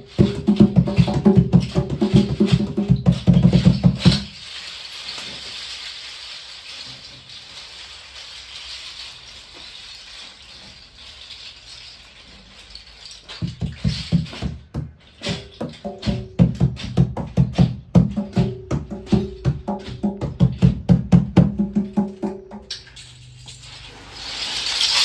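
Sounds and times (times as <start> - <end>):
percussion on junk objects: 0.0 - 25.0
soft rattling hiss: 0.0 - 25.0.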